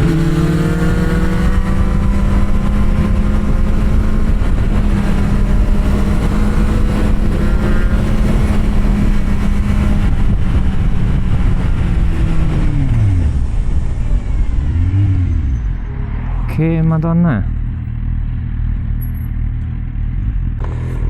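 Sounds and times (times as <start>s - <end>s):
motorcycle engine running: 0.0s - 16.0s, 17.4s - 21.0s.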